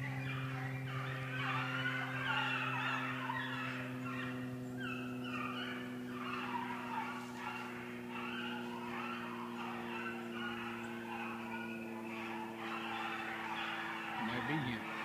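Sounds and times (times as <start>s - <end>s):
hounds baying: 0.0s - 15.0s
steady low hum: 0.0s - 15.0s.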